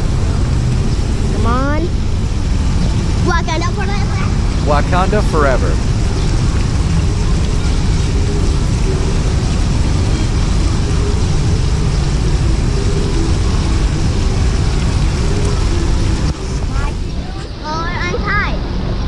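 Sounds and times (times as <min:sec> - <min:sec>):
water fountain rushing and splashing: 0:00.0 - 0:19.0.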